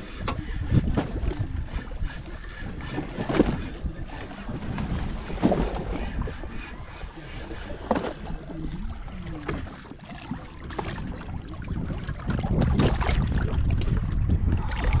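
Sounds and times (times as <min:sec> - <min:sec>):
water washing against boat hull: 0:00.0 - 0:15.0
wind on microphone: 0:00.0 - 0:15.0.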